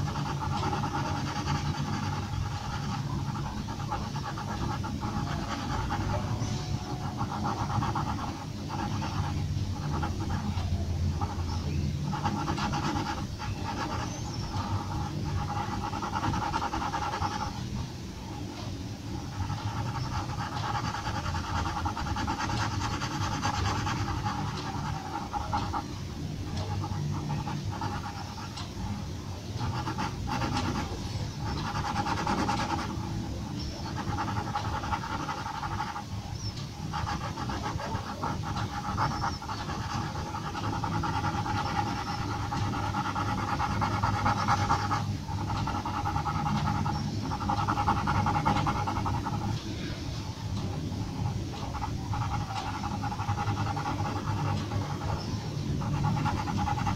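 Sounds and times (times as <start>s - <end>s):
pencil scratching on paper: 0.0s - 17.7s, 18.6s - 49.9s, 50.5s - 56.9s.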